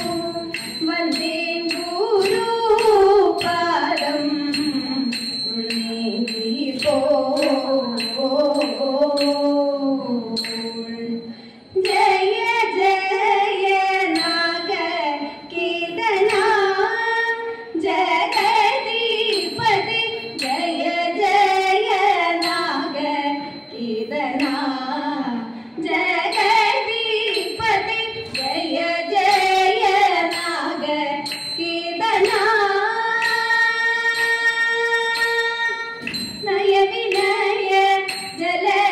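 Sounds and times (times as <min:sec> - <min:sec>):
women singing: 0:00.0 - 0:38.9.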